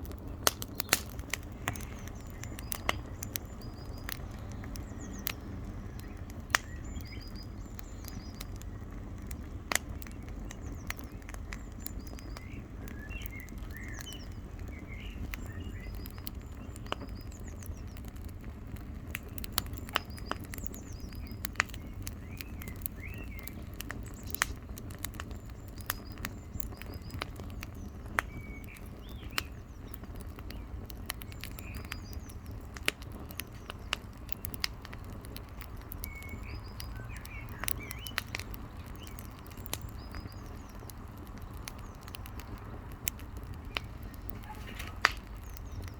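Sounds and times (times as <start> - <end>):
birds chirping: 0.0 - 45.9
campfire wood crackling: 0.0 - 45.9.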